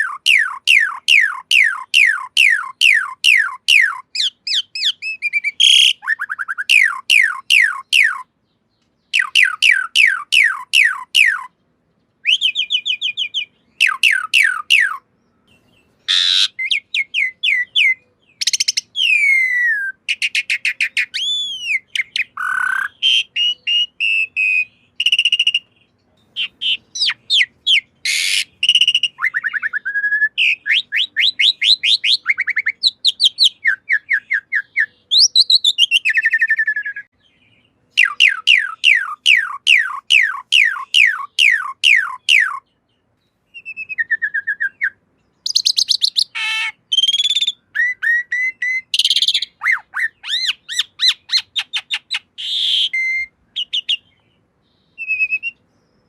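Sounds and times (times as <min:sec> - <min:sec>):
starling singing whistled notes: 0:00.0 - 0:08.4, 0:09.0 - 0:11.5, 0:12.2 - 0:42.7, 0:43.5 - 0:56.0.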